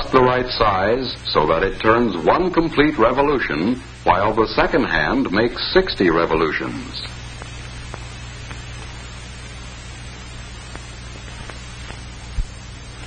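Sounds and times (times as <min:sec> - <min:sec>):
film soundtrack hiss: 0:00.0 - 0:13.0
low mains hum: 0:00.0 - 0:13.0.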